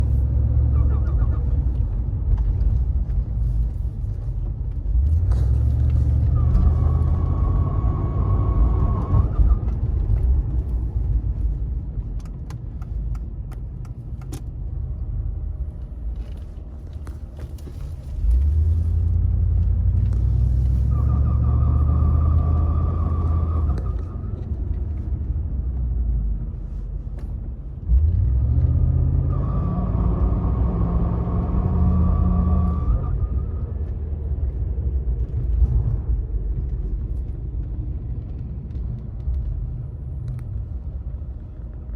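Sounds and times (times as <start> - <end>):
car engine rumble: 0.0 - 41.9.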